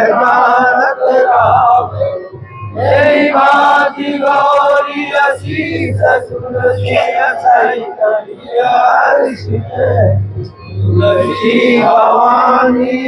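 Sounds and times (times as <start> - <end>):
voices singing devotional hymn: 0.0 - 13.0.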